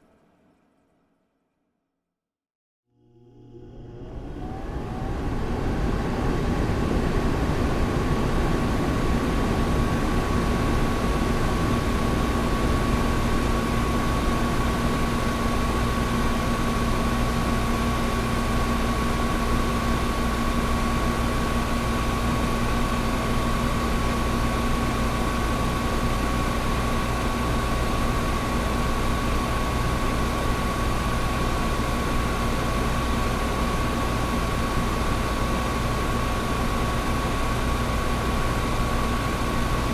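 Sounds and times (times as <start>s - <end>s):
air conditioner running: 3.0s - 39.9s.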